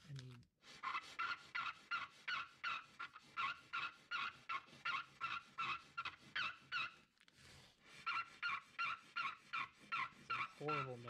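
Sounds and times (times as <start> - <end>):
seal scraping on sandpaper: 0.6 - 11.0.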